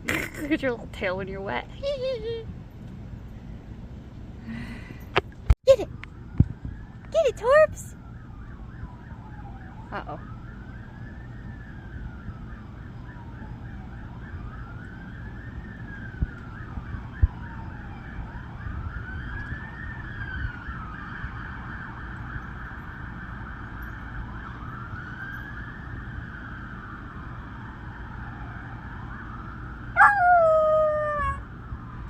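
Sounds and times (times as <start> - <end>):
rapid siren warble: 5.9 - 32.0
sirens wailing: 5.9 - 32.0.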